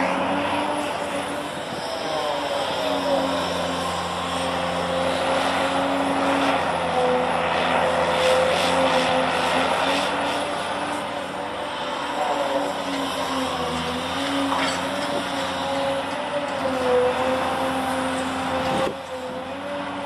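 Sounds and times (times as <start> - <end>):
large engine droning: 0.0 - 20.0.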